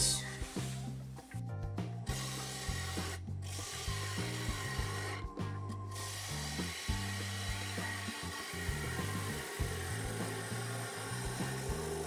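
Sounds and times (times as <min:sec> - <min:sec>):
background music with bass line: 0:00.0 - 0:12.0
lathe tool scraping wood: 0:02.1 - 0:12.0.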